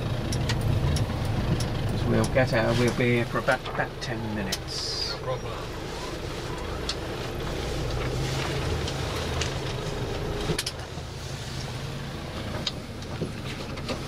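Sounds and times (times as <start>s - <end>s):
bus engine hum: 0.0s - 14.0s.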